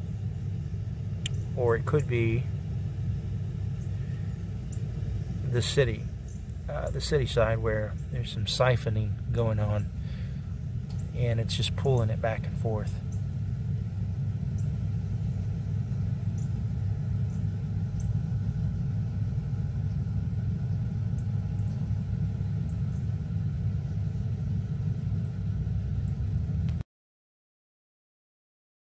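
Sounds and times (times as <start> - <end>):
low rumble: 0.0 - 26.8.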